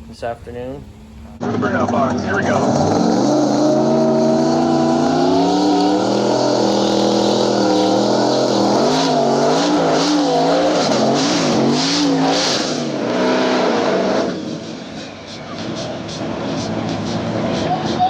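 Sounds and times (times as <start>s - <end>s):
race car engines revving: 0.8s - 18.0s.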